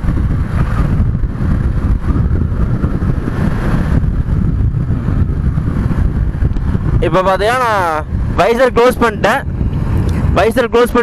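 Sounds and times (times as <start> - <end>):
motorcycle and road noise: 0.0 - 11.0
wind buffeting microphone: 0.0 - 11.0.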